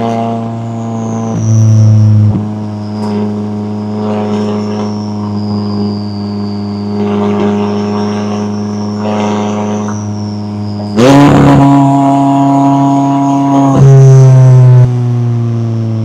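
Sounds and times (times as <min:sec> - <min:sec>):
car engine running: 0:00.0 - 0:16.0
faint high whine: 0:00.0 - 0:16.0.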